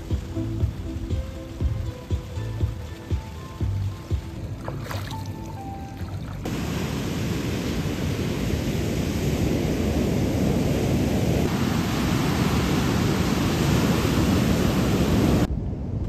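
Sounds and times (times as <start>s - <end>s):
heavy rain pouring: 0.0s - 4.6s, 5.2s - 15.5s.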